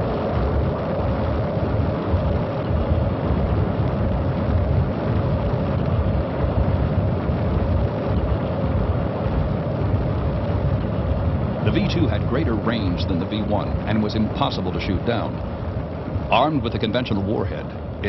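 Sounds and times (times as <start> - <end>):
rocket engine roaring: 0.0 - 18.0.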